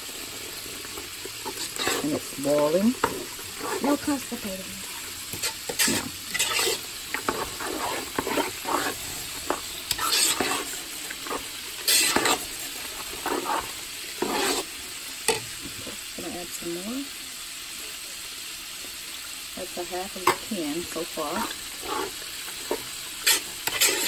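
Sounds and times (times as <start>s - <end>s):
spatula stirring thick pasta: 0.0s - 16.1s, 20.0s - 24.0s
sauce simmering: 0.0s - 24.0s.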